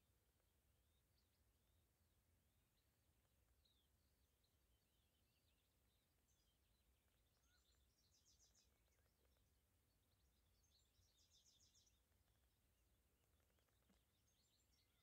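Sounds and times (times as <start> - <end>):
distant birdsong: 0.3 - 15.0.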